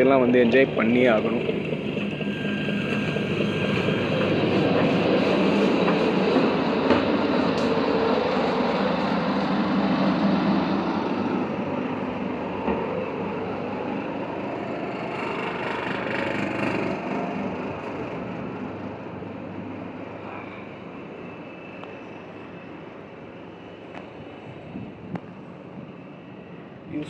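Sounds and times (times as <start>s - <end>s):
boat engine drone and rattle: 0.0s - 27.0s.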